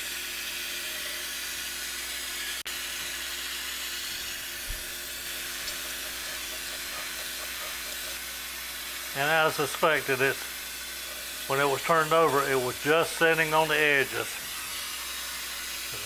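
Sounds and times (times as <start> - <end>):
surface grinder hissing: 0.0 - 16.0.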